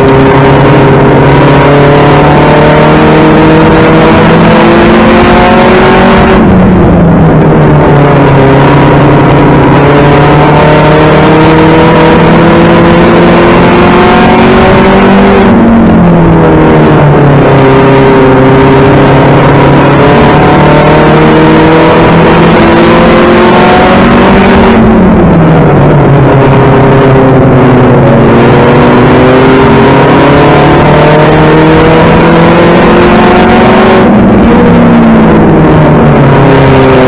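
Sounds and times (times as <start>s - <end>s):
race car engine at high revs: 0.0s - 37.0s.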